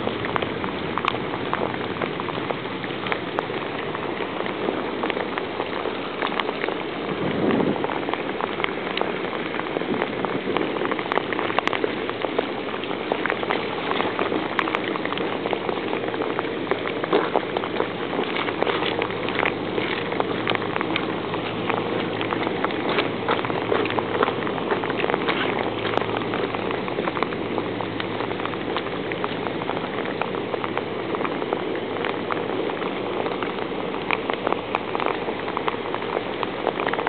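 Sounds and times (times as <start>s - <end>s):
raindrops tapping: 0.0s - 37.0s
steady rain falling: 0.0s - 37.0s.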